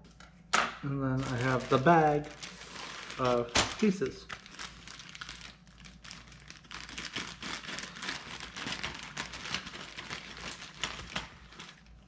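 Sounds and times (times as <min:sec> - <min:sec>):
plastic bag crinkling: 0:01.2 - 0:12.0.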